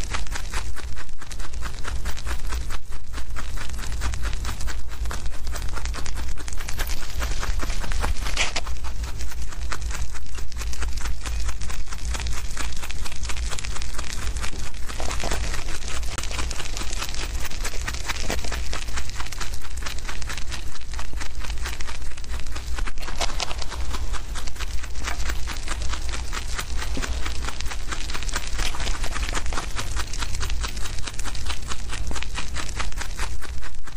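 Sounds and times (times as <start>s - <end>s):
rabbits crunching grass: 0.0s - 33.9s
steady low rumble: 0.0s - 33.9s.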